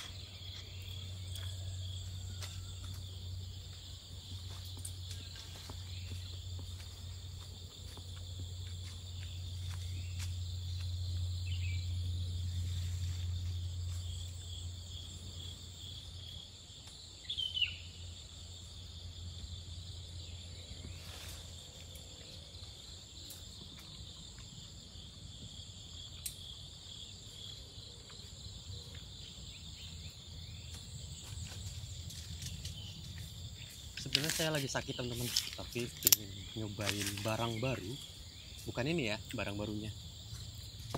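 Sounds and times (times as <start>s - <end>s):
crickets and insects chorus: 0.0s - 40.9s.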